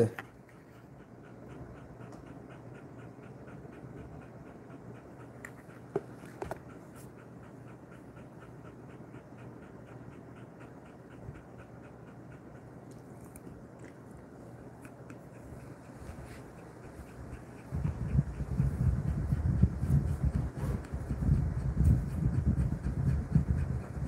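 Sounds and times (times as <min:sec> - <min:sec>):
dog panting quickly: 0:00.0 - 0:24.0.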